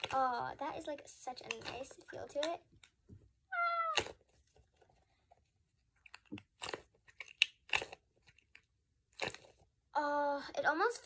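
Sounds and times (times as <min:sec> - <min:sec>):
stress ball squishing: 0:00.0 - 0:09.9.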